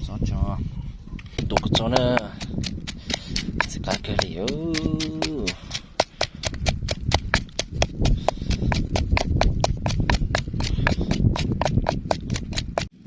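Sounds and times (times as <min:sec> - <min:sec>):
knife chopping on cutting board: 0:01.4 - 0:12.9.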